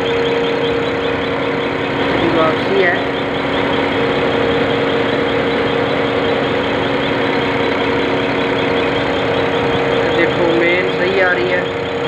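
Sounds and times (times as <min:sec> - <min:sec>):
injector rapid ticking: 0:00.0 - 0:12.0
pump humming: 0:00.0 - 0:12.0.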